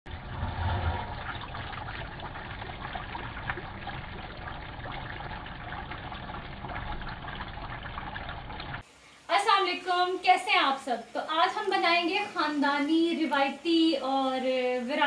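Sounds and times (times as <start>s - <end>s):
curry sizzling and bubbling: 0.1s - 15.0s.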